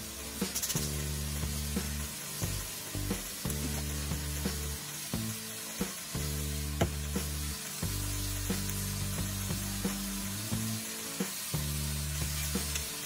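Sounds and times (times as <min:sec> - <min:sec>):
background music of low notes: 0:00.0 - 0:13.0
food sizzling in a frying pan: 0:00.0 - 0:13.0.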